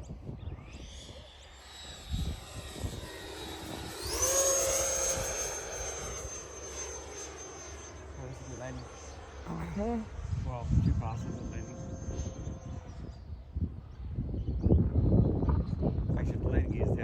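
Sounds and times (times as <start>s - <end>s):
electric ducted fan jet whine: 0.0s - 17.0s.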